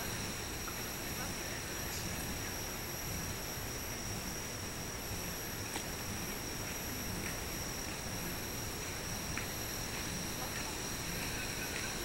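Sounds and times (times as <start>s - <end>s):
outdoor night background noise: 0.0s - 12.0s.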